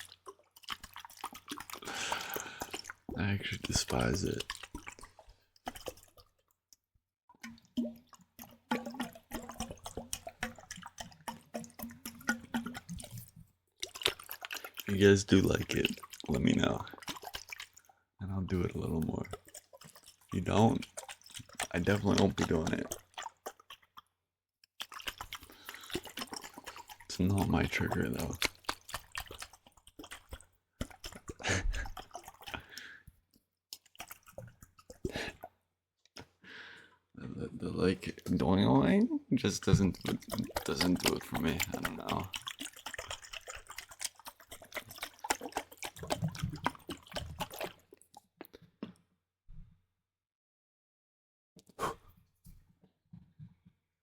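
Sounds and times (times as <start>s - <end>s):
small wet clicks: 0.0s - 36.4s, 38.0s - 49.1s.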